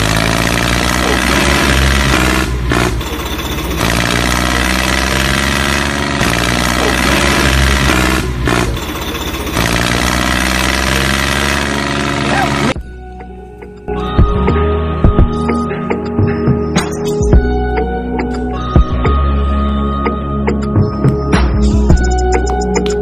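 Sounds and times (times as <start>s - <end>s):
tractor engine running: 0.0s - 19.1s.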